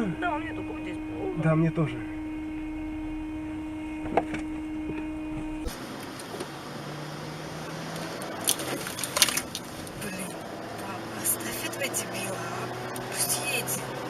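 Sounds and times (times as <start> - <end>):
car moving: 0.0 - 14.0
steady hum with constant tone: 0.0 - 14.0.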